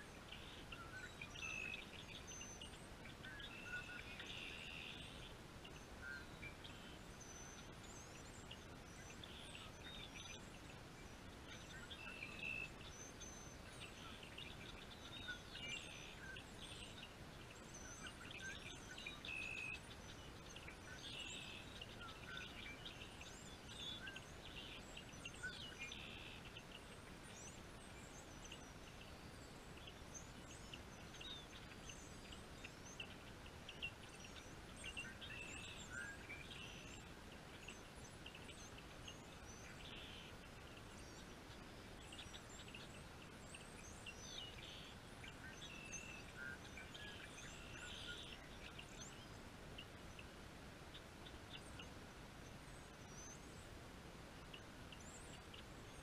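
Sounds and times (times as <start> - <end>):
faint songbirds chirping: 0.0 - 56.0
steady outdoor hiss: 0.0 - 56.0.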